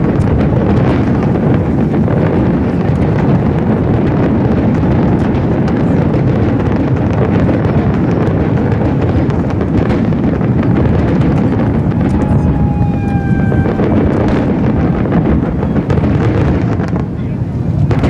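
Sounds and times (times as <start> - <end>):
fireworks booming: 0.0 - 18.0
fireworks crackling: 0.0 - 18.0.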